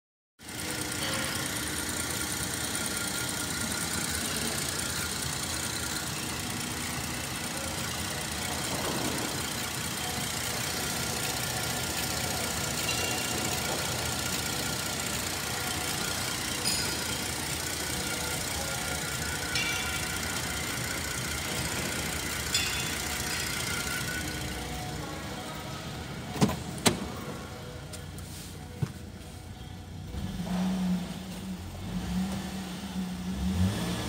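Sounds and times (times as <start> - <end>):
car engine idling: 0.4 - 34.0.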